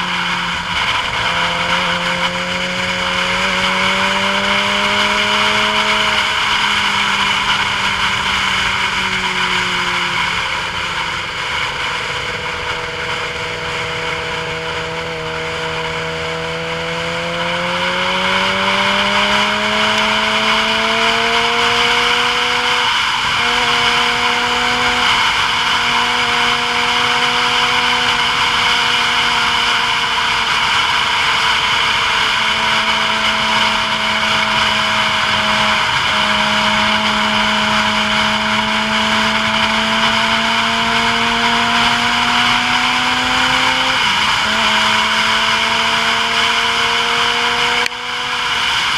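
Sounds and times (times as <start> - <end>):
road and wind noise: 0.0 - 48.9
vehicle engine: 0.0 - 48.9.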